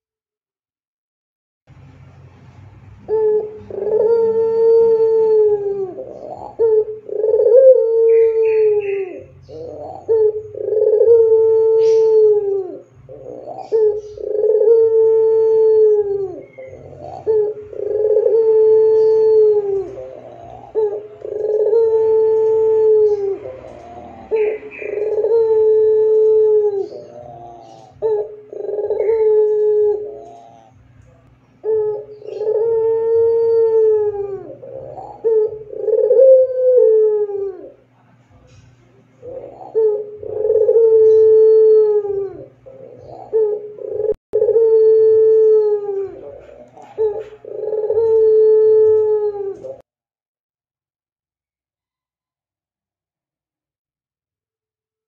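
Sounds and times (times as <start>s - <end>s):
faint low hum: 1.7s - 49.8s
dove cooing: 2.8s - 49.8s.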